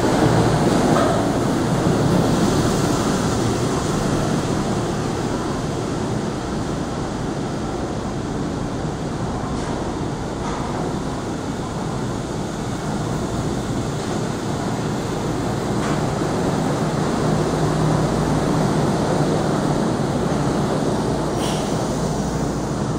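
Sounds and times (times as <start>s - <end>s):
echoing station background noise: 0.0s - 22.9s
monorail train running past: 0.0s - 22.9s.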